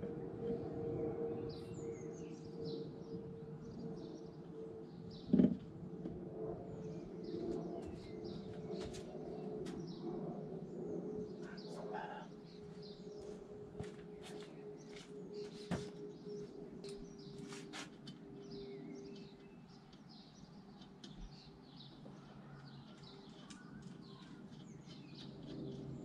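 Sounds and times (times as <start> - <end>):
small birds chirping and singing: 1.2 - 5.5, 6.8 - 10.0, 10.6 - 26.0.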